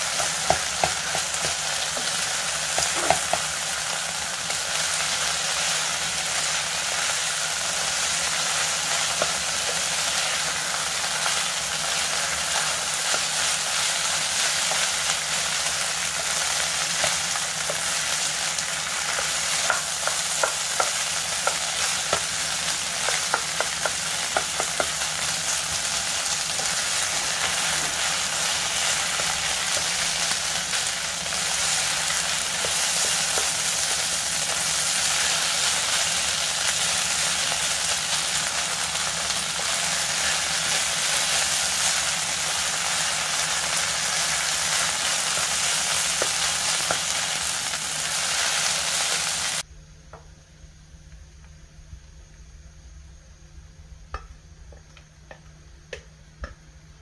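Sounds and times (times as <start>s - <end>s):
rice sizzling in a hot pan: 0.0s - 49.7s.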